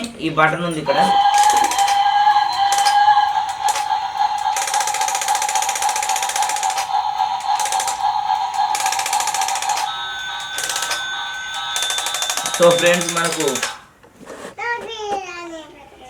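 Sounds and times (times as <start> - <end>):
steady high-pitched tone: 0.8 - 13.9
toy train ratcheting tick: 0.8 - 13.9.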